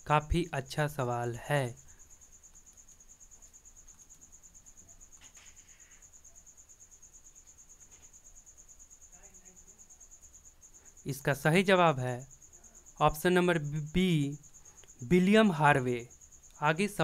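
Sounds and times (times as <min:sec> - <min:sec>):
faint high-pitched pulsing trill: 0:00.0 - 0:17.0.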